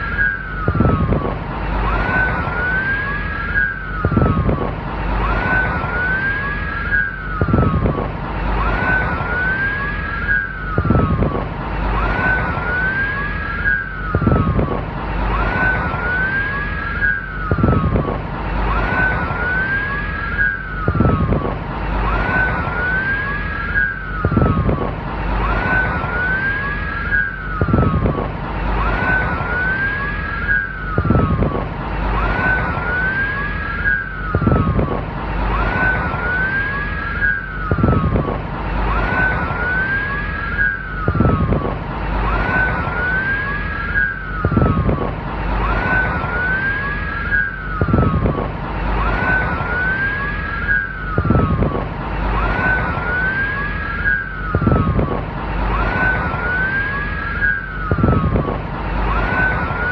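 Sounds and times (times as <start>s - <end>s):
low rumble: 0.0s - 59.9s.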